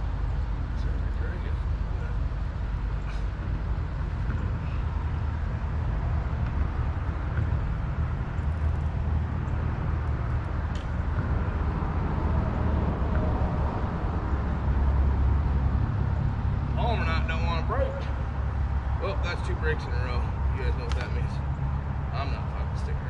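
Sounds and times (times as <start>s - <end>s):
road noise: 0.0s - 23.0s
vehicle rumble: 0.0s - 23.0s.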